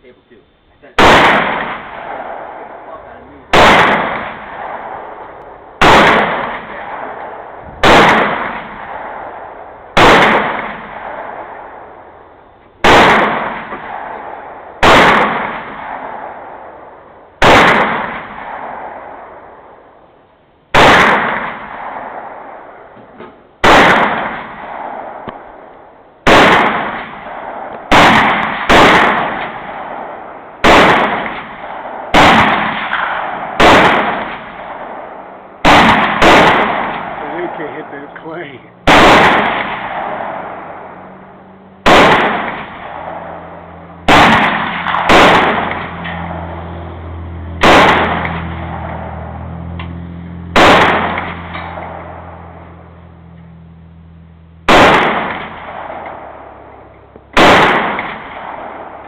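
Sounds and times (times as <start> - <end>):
rifle shots with echo: 0.8 - 20.1, 20.7 - 53.4, 54.6 - 59.0.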